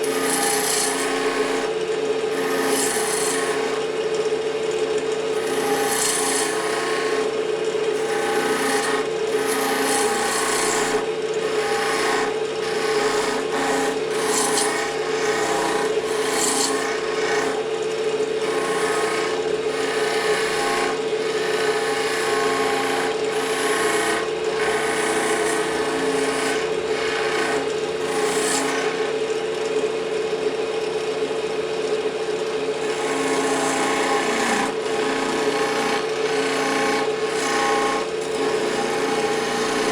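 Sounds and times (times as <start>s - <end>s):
turning tool cutting wood: 0.0s - 39.9s
wood lathe humming: 0.0s - 39.9s.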